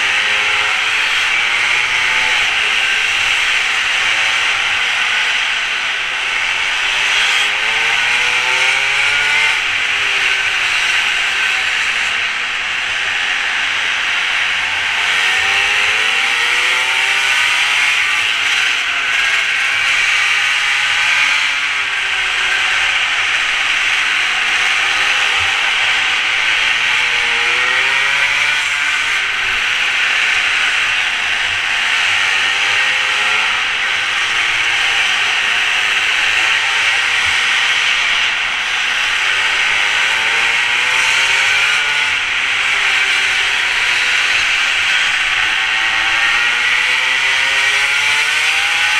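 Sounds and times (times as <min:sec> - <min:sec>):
mini moto engine revving: 0:00.0 - 0:48.9.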